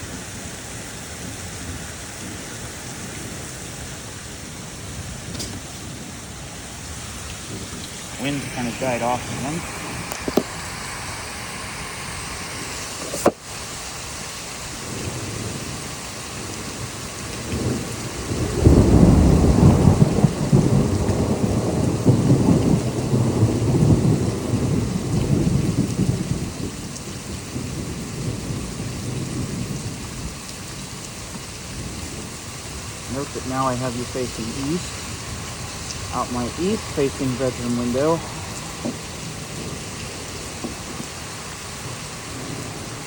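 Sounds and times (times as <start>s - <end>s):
steady rain: 0.0s - 43.0s
thunder rolling: 1.2s - 13.4s, 14.8s - 43.0s.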